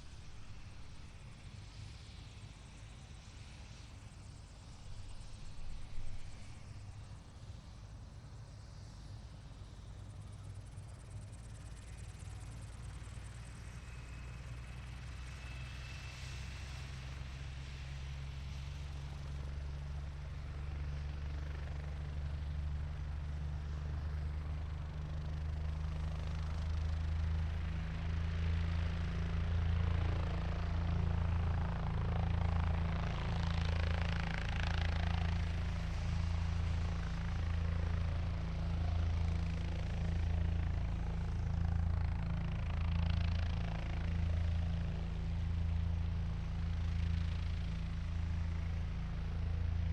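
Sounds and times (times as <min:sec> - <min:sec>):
helicopter engine and rotor: 0:00.0 - 0:15.7, 0:16.8 - 0:49.9.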